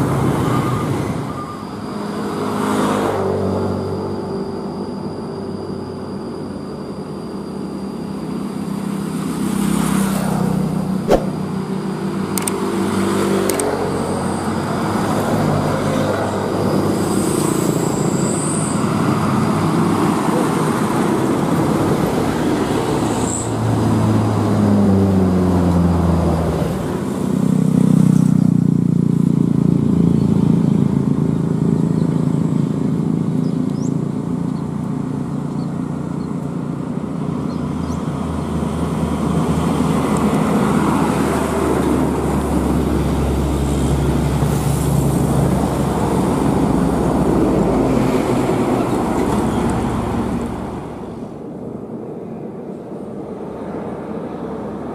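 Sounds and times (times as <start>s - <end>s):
road noise: 0.0s - 54.9s.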